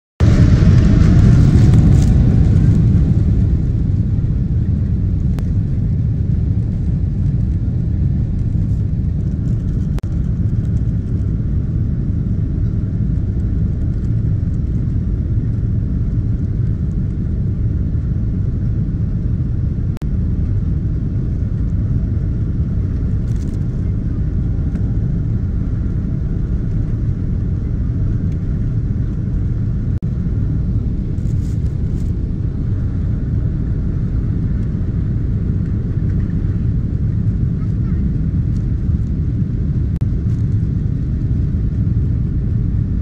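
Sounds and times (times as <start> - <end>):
jet engines rumbling: 0.2 - 43.0.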